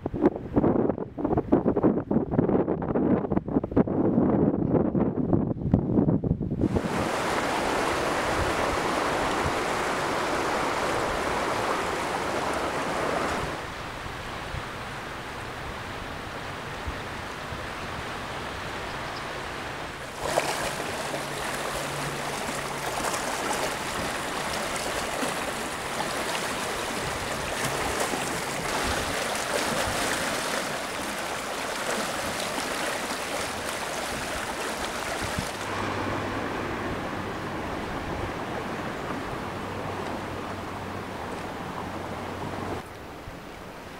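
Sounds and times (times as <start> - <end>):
floodwater rushing: 6.6 - 43.2.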